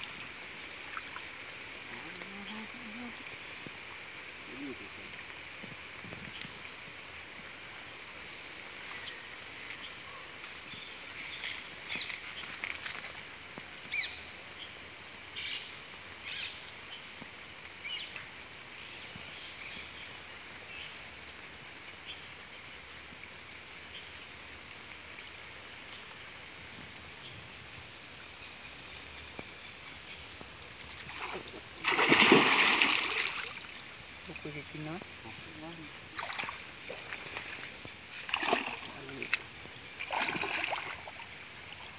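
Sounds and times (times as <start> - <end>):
steady river hiss: 0.0 - 41.9.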